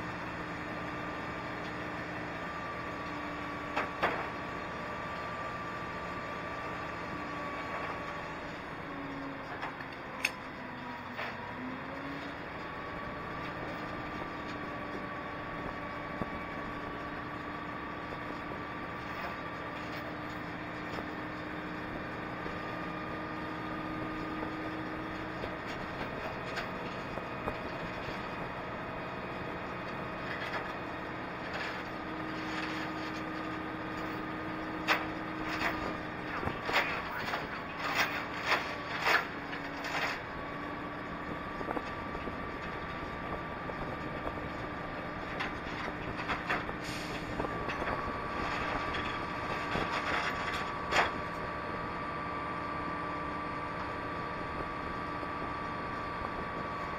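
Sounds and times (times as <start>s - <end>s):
crane diesel engine running: 0.0s - 56.9s.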